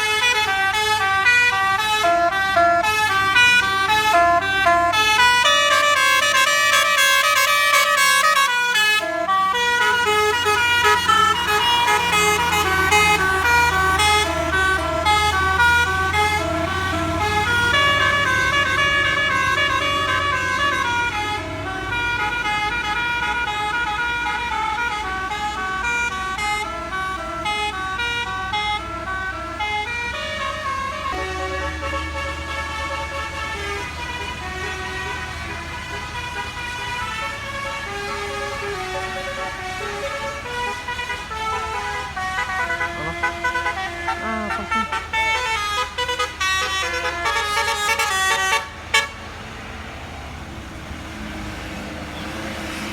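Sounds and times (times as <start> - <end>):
musical air horn melody: 0.0 - 49.2
bus engine running: 0.0 - 52.9.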